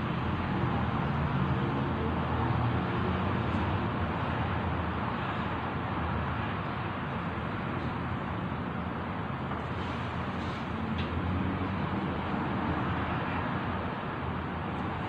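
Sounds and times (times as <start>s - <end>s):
vehicle rumble and hiss: 0.0s - 15.0s.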